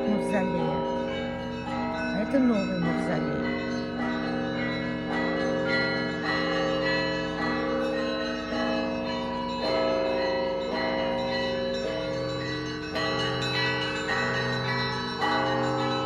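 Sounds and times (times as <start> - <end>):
church bells chiming: 0.0 - 16.0.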